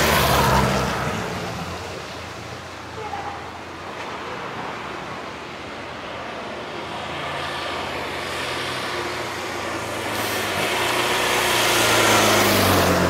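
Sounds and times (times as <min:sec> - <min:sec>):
low road ambience: 0:00.0 - 0:13.0.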